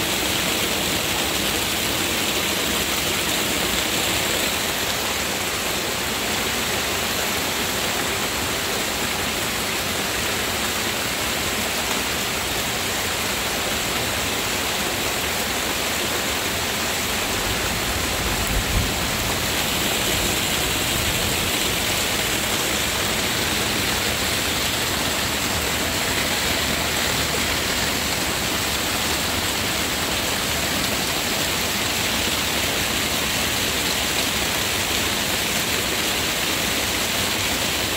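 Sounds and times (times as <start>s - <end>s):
heavy rain on foliage: 0.0s - 37.9s.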